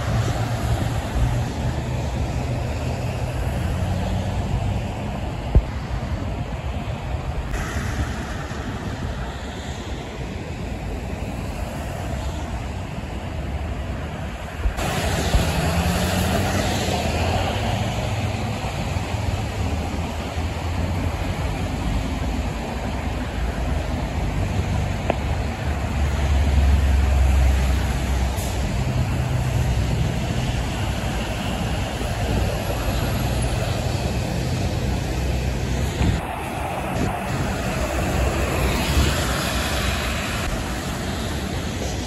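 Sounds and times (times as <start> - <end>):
truck diesel engines: 0.0 - 42.0
tyres hissing on wet road: 0.0 - 42.0.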